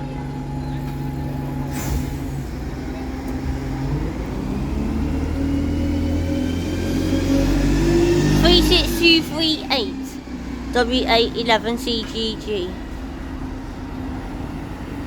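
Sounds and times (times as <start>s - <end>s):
bus engine pulling away: 0.0s - 15.0s.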